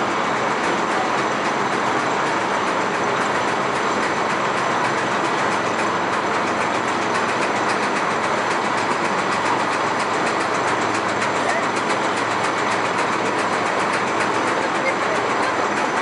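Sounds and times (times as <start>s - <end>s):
roller coaster rolling roar: 0.0s - 16.0s.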